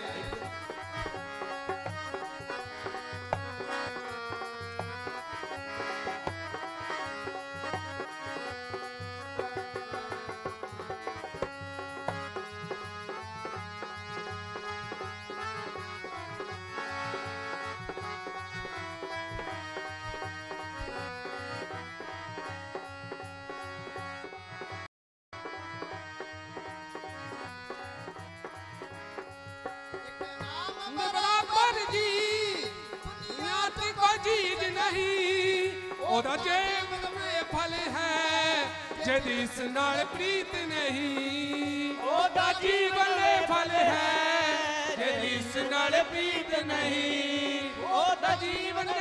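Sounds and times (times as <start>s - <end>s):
dholak drum beat: 0.0s - 24.8s, 25.4s - 49.0s
harmonium melody: 0.0s - 49.0s.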